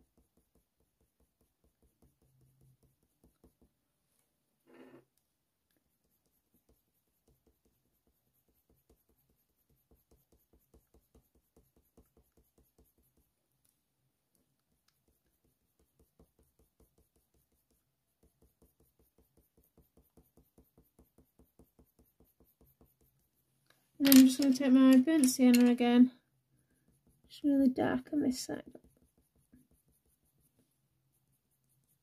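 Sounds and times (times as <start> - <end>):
pencil scratching on paper: 0.0 - 3.8, 5.8 - 23.5, 26.6 - 32.0.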